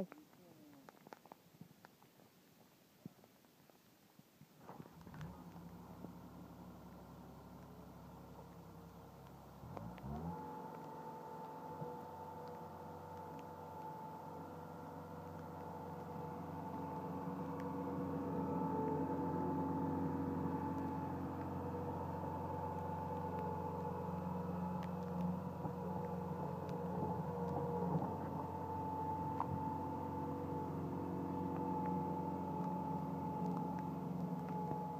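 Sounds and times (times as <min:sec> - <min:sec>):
diesel engine running: 0:04.9 - 0:34.9.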